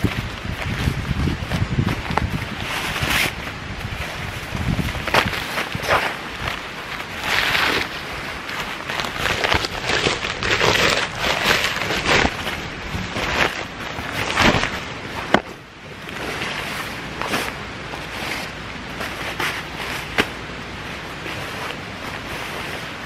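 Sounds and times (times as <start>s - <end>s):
sleeping pad fabric rustling: 0.0s - 23.0s.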